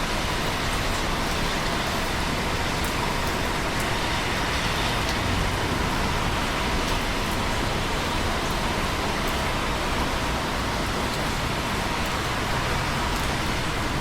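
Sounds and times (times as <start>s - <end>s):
faint raindrop ticks: 0.0s - 14.0s
steady rain hiss: 0.0s - 14.0s.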